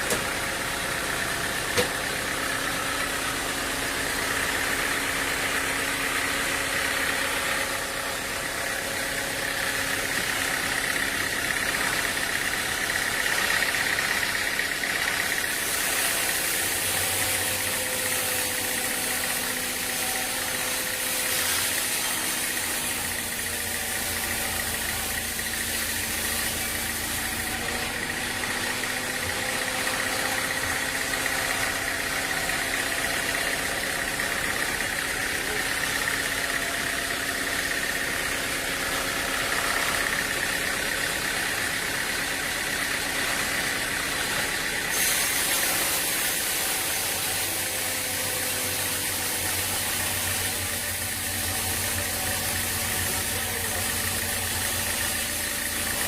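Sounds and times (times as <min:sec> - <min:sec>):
high steady machine whine: 0:00.0 - 0:56.0
sawmill machinery humming: 0:00.0 - 0:56.0.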